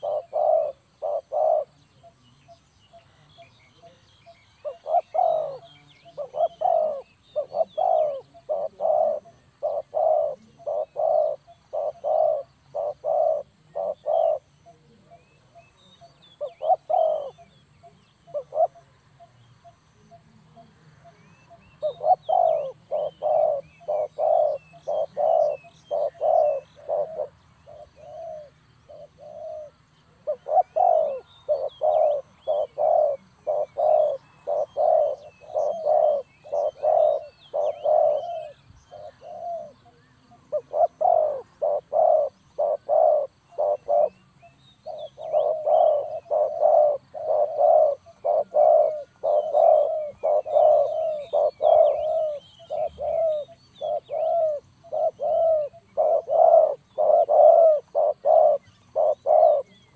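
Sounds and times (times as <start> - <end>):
dove cooing: 0.0 - 59.9
small birds chirping: 0.0 - 59.9.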